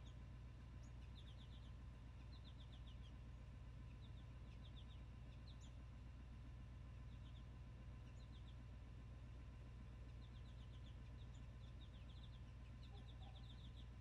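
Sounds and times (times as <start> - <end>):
low steady hum: 0.0 - 14.0
songbird chirping: 0.0 - 14.0.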